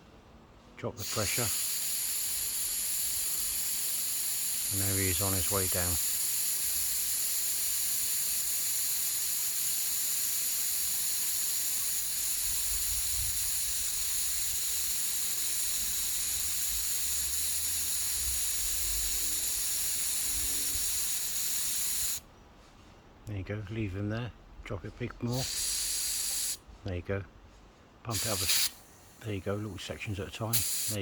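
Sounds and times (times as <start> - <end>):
compressed air hissing: 1.0 - 22.2, 25.2 - 26.7, 28.1 - 31.0.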